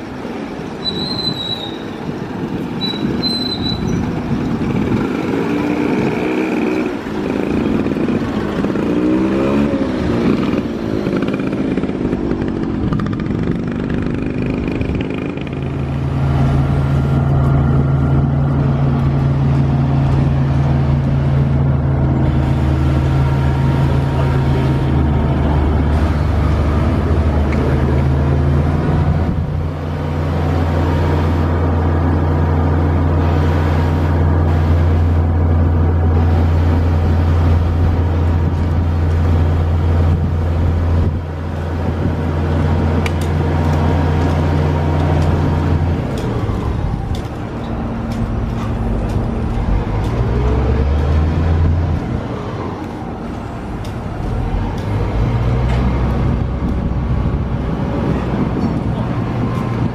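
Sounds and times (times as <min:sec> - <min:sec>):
heavy vehicle engine running unevenly: 0:00.0 - 0:59.9
steady low engine hum: 0:03.8 - 0:59.9.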